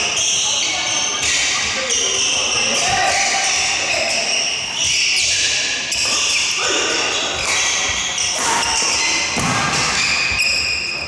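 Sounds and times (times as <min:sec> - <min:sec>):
shoes squeaking on wooden floor: 0:00.0 - 0:11.0.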